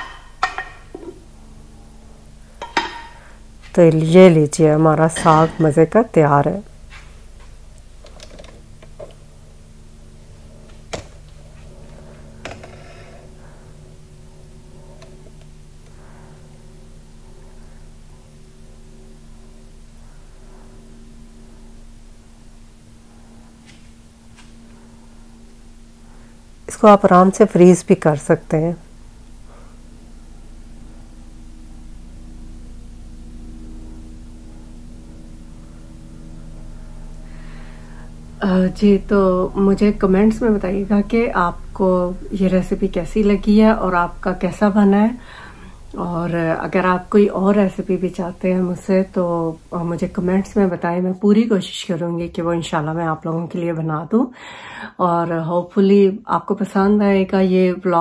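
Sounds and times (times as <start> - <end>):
kitchen appliance humming: 0.0 - 51.1.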